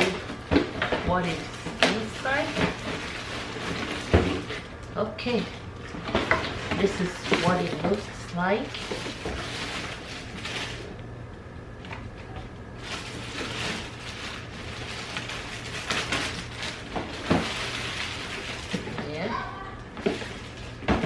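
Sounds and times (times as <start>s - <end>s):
packaging rustling: 0.0s - 11.2s, 12.0s - 19.0s, 19.8s - 21.0s.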